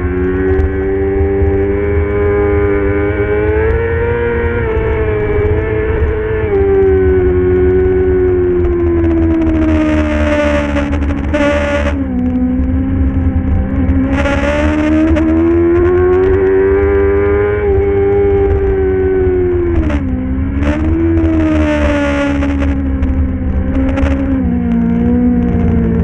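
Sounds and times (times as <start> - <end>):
racing motorcycle engine revving: 0.0 - 26.0.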